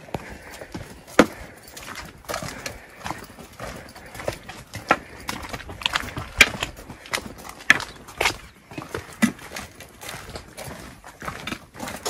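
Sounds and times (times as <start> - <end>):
footsteps on stone path: 0.0 - 12.0
walking stick tapping stone: 0.0 - 12.0.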